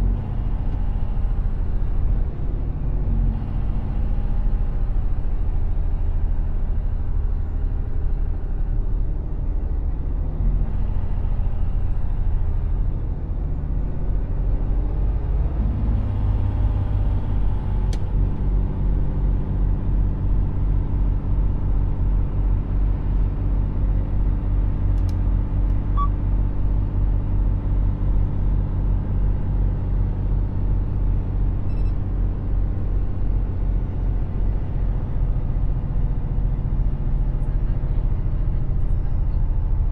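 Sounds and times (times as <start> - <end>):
low road rumble: 0.0 - 39.9.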